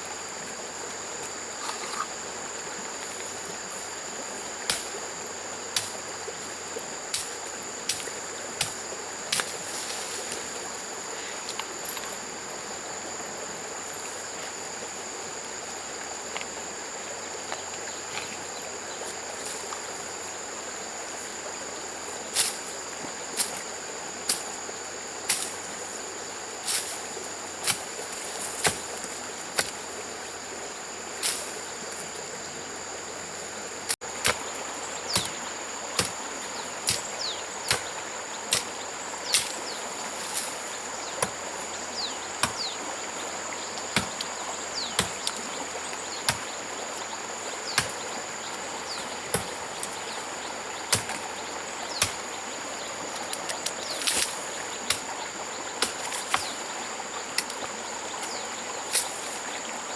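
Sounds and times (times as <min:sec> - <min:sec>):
insects droning: 0:00.0 - 0:59.9
stream rushing: 0:00.0 - 0:59.9.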